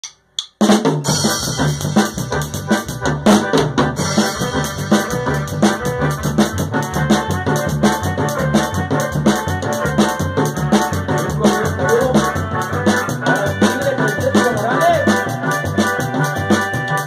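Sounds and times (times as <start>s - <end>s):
drum beat: 0.0s - 17.0s
bass line: 1.0s - 17.0s
keyboard melody: 1.0s - 17.0s.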